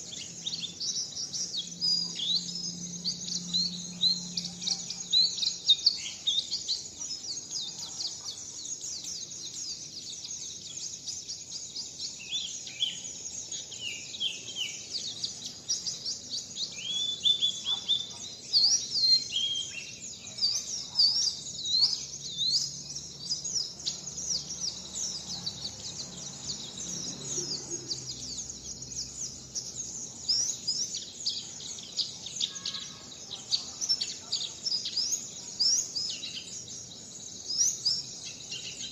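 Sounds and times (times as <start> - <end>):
songbird chirping and whistling: 0.0 - 38.9.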